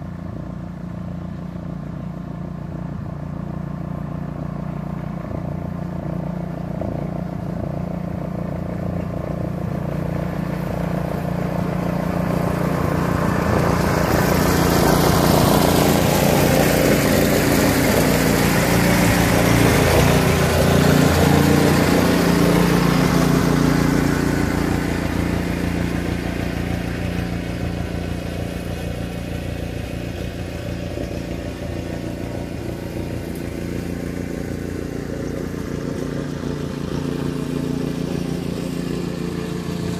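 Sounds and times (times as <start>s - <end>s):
truck engine driving past: 0.0s - 39.9s.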